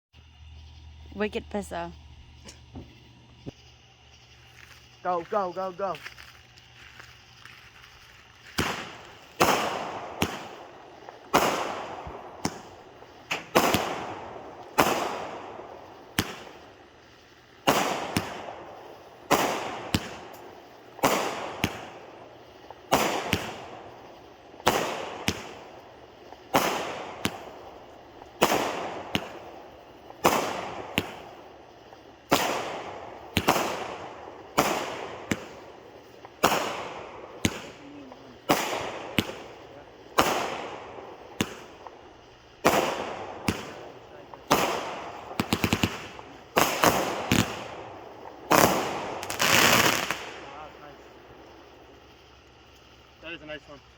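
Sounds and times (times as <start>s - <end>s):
fireworks bangs: 0.4s - 53.7s.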